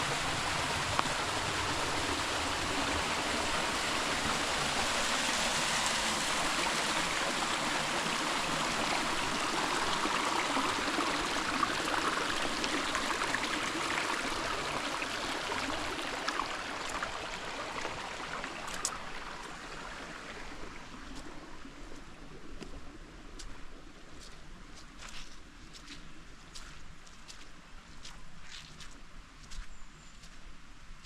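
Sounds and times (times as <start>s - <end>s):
creek water flowing over rocks: 0.0s - 29.6s.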